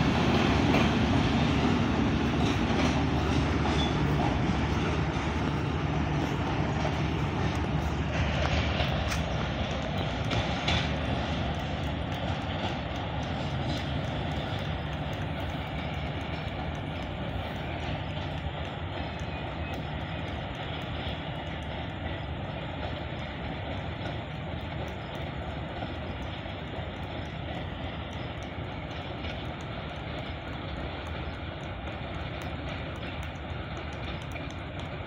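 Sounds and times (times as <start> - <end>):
passenger train rumbling: 0.0 - 35.0.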